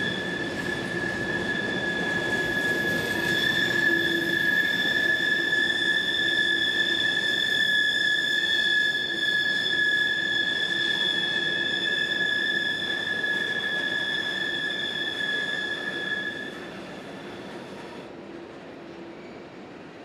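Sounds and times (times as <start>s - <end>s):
train rolling noise: 0.0s - 20.0s
train wheels squealing on rail: 0.0s - 20.0s.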